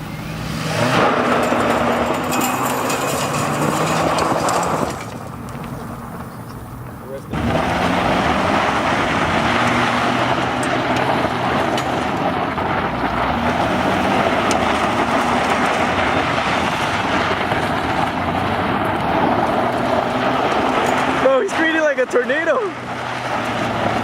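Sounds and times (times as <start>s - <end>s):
low engine hum: 0.0s - 24.0s
wind and road noise: 0.0s - 24.0s.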